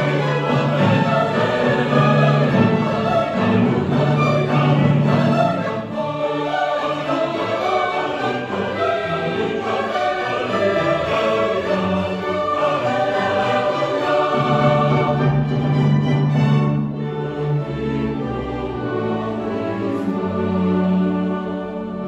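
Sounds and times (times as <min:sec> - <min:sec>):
mixed choir singing: 0:00.0 - 0:22.0
symphony orchestra playing: 0:00.0 - 0:22.0.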